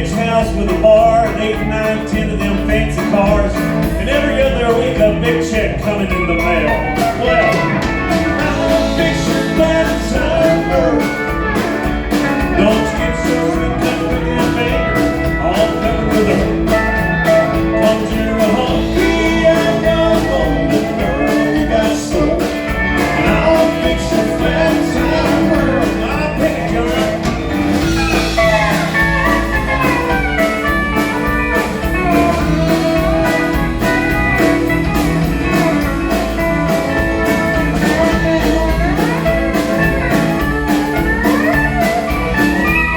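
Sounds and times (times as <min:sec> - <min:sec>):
country-rock band playing: 0:00.0 - 0:42.9.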